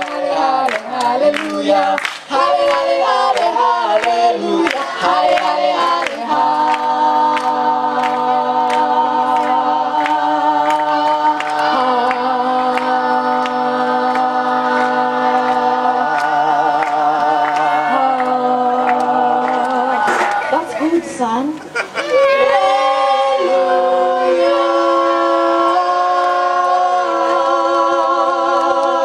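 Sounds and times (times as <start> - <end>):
congregation singing: 0.0 - 29.0.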